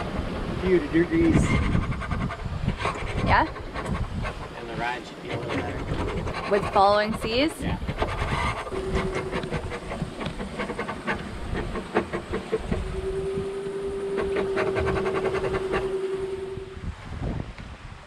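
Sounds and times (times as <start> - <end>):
boat creaks and clicks: 0.0 - 16.7
steady mid-pitched tone: 0.0 - 16.9
wind and water rushing: 0.0 - 18.0.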